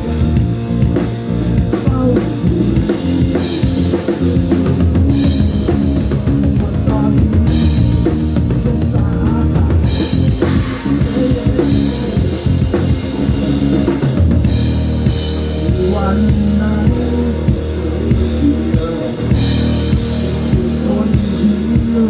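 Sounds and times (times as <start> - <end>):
bass drum and snare: 0.0 - 22.0
rock band playing: 0.0 - 22.0.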